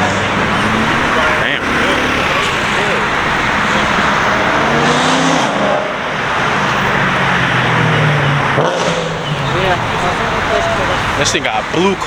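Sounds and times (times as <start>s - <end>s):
car engine idling: 0.0s - 12.0s
loud surrounding noise: 0.0s - 12.0s.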